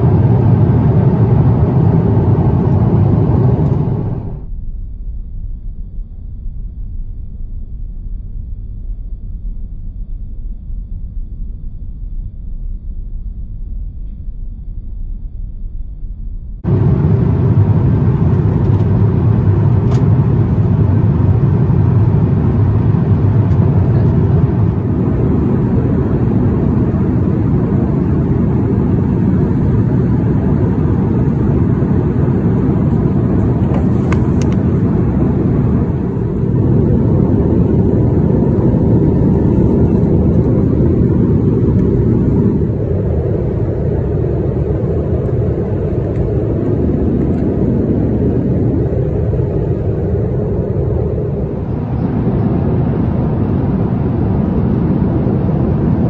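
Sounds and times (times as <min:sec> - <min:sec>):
airliner cabin cruise roar: 0:00.0 - 0:04.9, 0:06.1 - 0:56.0.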